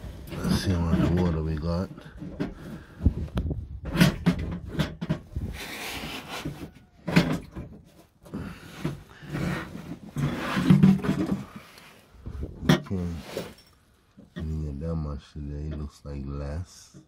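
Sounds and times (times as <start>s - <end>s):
plastic scraping and rustling: 0.0s - 14.6s.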